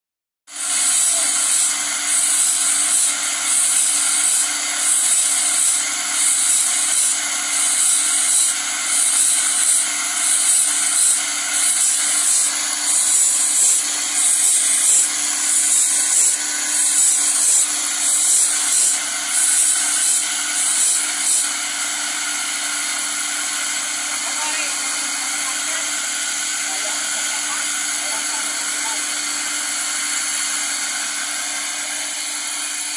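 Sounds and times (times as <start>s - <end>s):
grinder motor running: 0.5s - 32.9s
grinding wheel rasping on steel: 0.5s - 32.9s.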